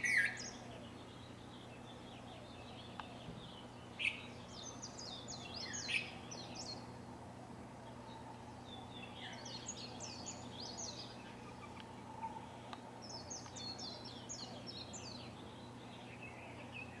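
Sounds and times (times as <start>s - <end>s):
low background hum: 0.0s - 17.0s
songbird singing: 0.0s - 17.0s.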